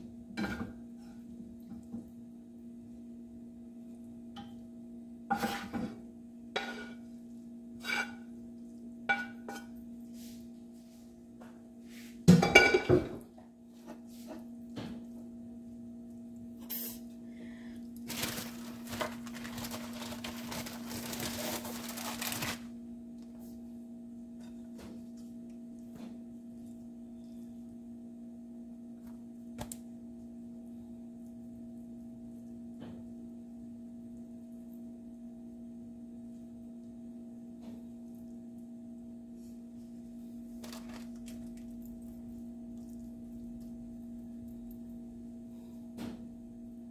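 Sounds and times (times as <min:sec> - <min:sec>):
appliance hum: 0:00.0 - 0:46.9.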